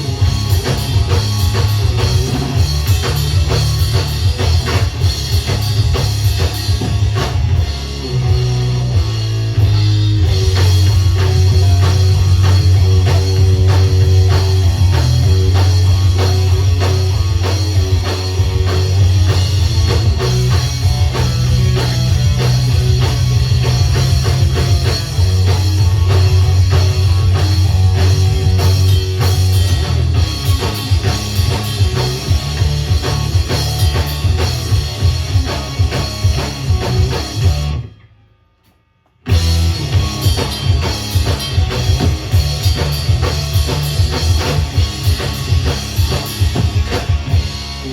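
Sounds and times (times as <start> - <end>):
bass guitar: 0.0 - 38.1, 39.2 - 47.9
distorted electric guitars: 0.0 - 47.9
drum kit: 0.0 - 47.9.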